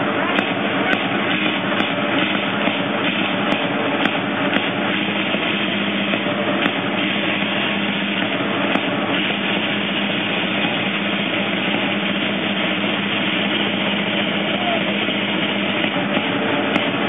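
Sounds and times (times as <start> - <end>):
drum roll echoing: 0.0 - 17.0.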